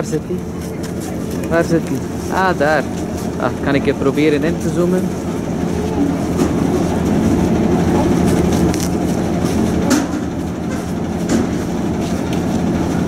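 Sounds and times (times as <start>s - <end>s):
bus rumbling and rattling: 0.0s - 13.0s.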